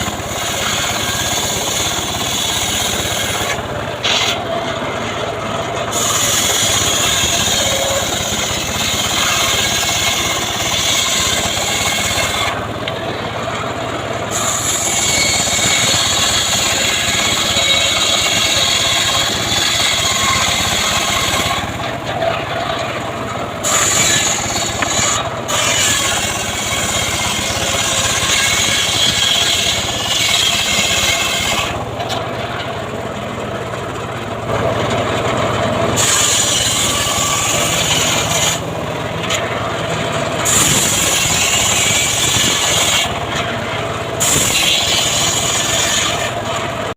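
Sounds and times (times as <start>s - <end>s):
band saw rasping through wood: 0.0s - 46.9s.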